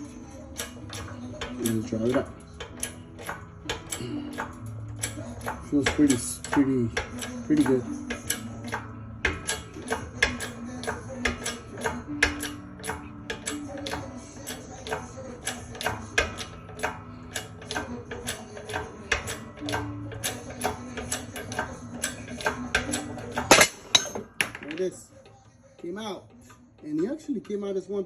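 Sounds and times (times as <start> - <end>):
hammer on metal: 0.6 - 24.9.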